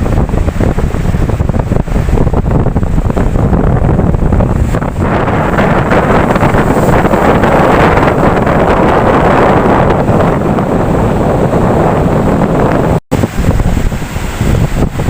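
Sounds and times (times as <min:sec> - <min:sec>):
ocean surf: 0:00.0 - 0:15.0
wave breaking with hissing wash: 0:00.0 - 0:15.0
wind buffeting microphone: 0:00.0 - 0:15.0.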